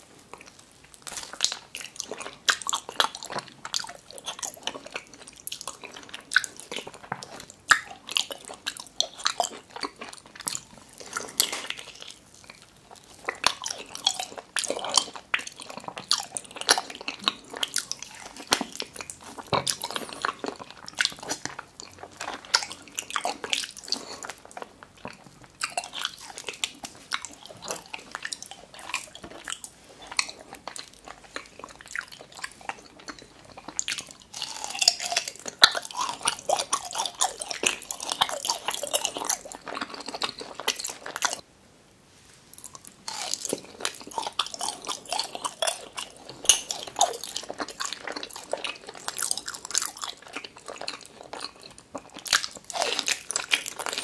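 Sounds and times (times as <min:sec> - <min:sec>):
person chewing with mouth clicks: 0:00.3 - 0:41.4, 0:42.5 - 0:54.0.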